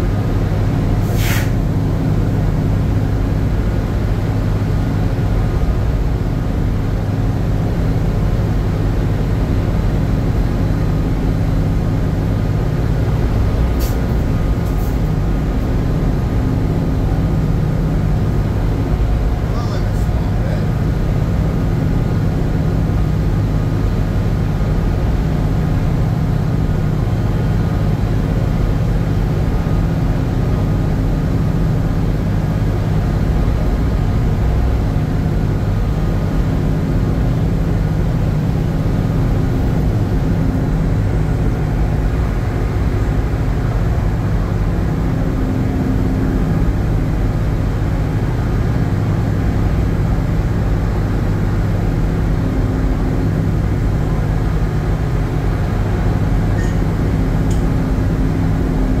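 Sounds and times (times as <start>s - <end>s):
ship machinery drone: 0.0s - 59.0s.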